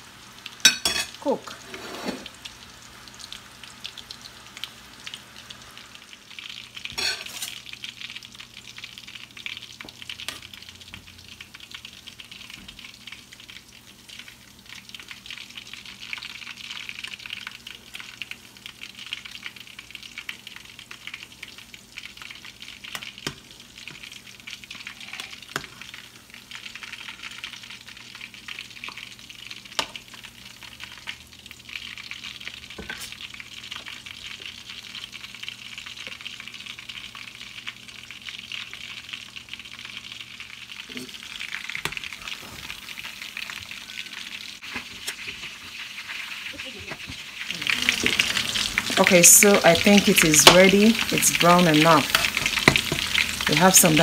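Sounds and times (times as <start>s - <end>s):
oil sizzling while deep-frying: 0.0s - 54.0s.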